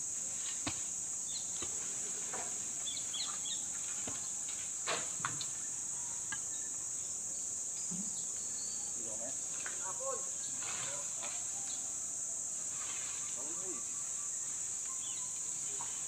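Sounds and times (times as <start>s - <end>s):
high-pitched insect drone: 0.9s - 16.0s.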